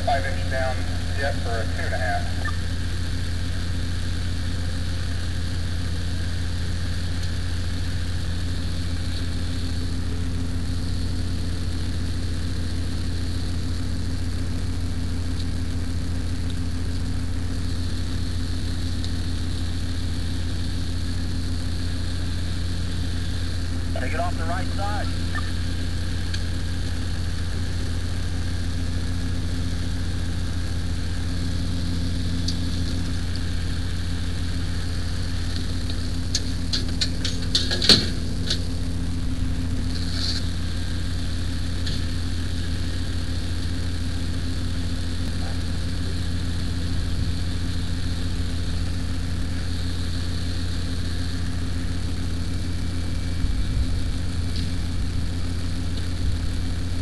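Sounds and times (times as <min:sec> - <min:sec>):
fire engine running: 0:00.0 - 0:57.0.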